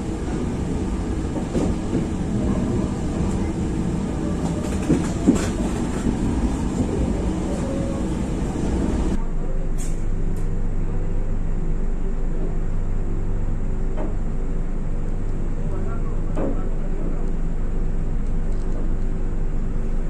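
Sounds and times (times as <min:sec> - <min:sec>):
diesel locomotive engine humming: 0:00.0 - 0:20.0
train rumble and rail clatter: 0:00.0 - 0:20.0.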